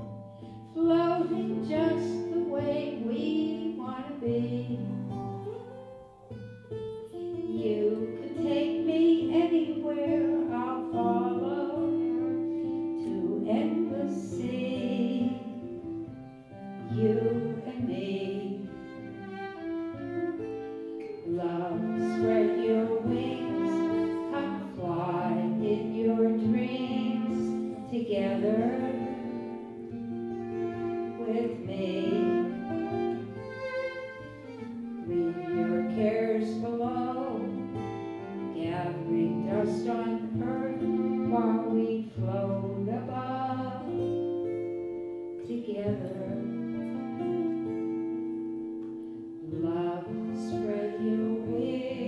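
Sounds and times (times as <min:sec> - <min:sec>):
acoustic guitar: 0:00.0 - 0:52.0
violin melody: 0:00.0 - 0:52.0.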